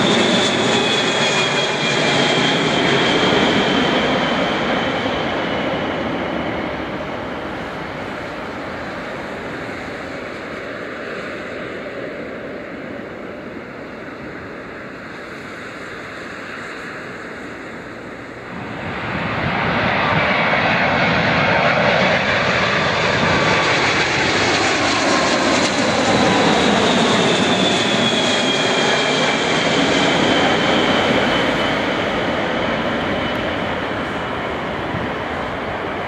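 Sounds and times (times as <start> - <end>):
high jet engine whine: 0.0 - 36.0
jet airliner passing low: 0.0 - 36.0.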